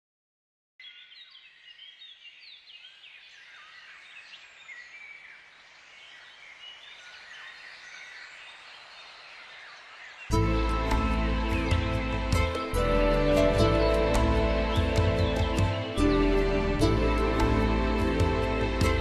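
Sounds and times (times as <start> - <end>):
birds chirping and singing: 0.8 - 19.0.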